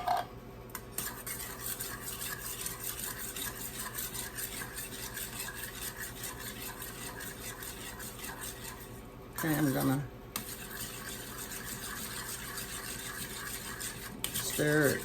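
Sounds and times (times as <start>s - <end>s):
utensil scraping round a bowl: 0.9s - 15.0s.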